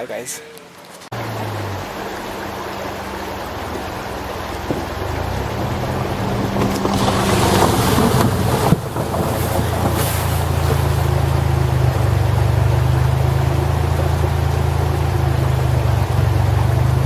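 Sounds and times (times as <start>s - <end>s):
low engine drone: 0.4s - 17.0s
rushing wind: 1.0s - 17.0s.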